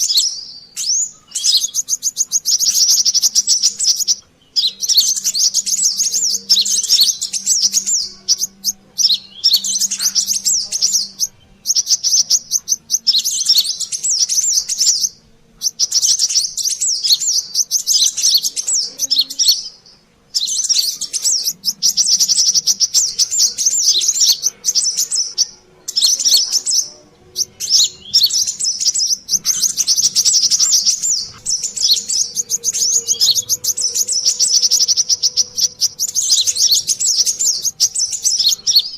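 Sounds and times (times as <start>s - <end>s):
bird rapid high chirping: 0.0s - 38.9s.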